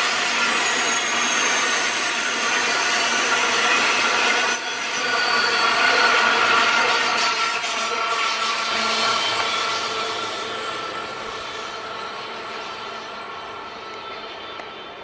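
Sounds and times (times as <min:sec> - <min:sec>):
train wheels squealing on rails: 0:00.0 - 0:15.0.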